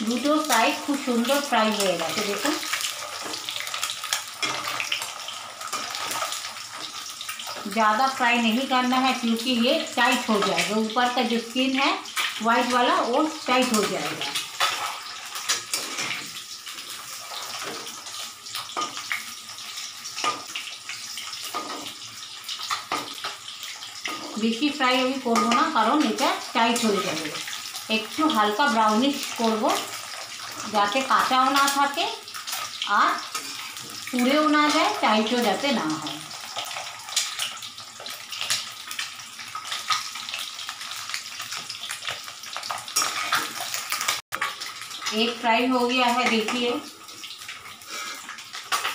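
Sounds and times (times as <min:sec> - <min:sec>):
eggs sizzling in oil: 0:00.0 - 0:48.9.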